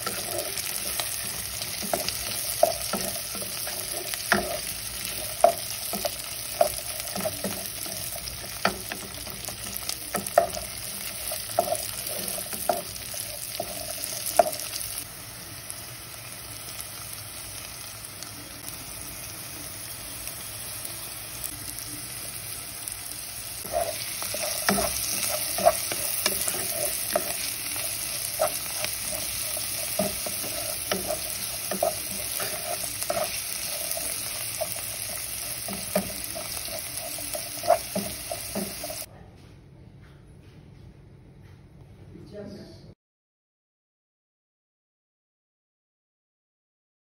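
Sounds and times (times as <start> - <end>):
food sizzling in oil: 0.0 - 39.1.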